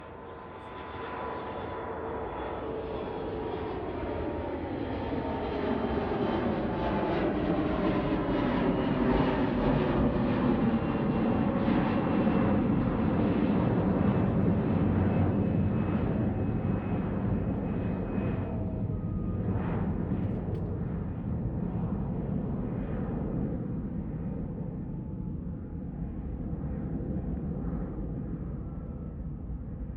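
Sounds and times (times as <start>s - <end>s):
jet engine whine: 0.0s - 29.9s.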